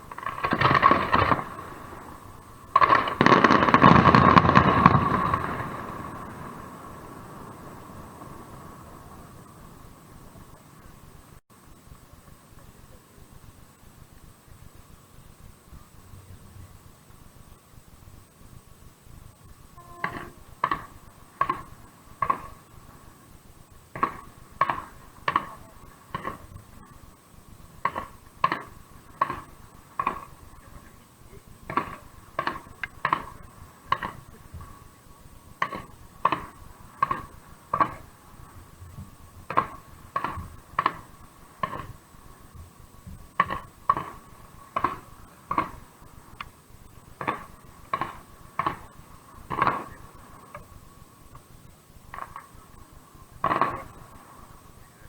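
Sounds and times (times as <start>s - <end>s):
faint steady tone: 0.0s - 55.0s.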